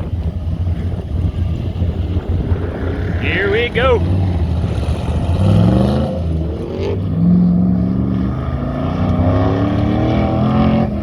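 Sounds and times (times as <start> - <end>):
pickup engine accelerating hard: 0.0 - 11.0.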